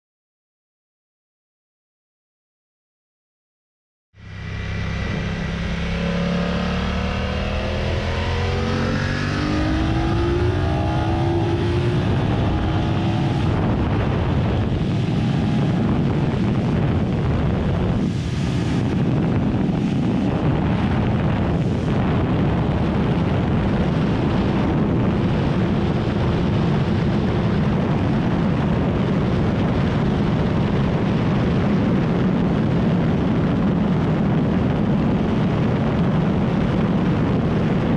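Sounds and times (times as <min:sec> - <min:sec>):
motorcycle engine at full throttle: 0:04.2 - 0:37.9
wind rush over microphone: 0:04.2 - 0:37.9.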